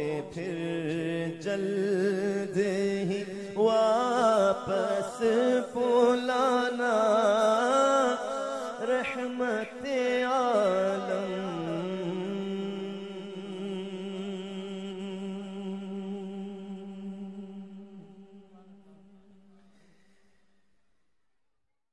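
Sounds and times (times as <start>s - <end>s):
man singing a long held note: 0.0s - 19.4s.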